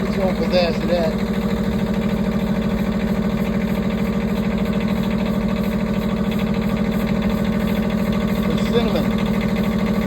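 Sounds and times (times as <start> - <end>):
sawmill engine running: 0.0 - 10.0.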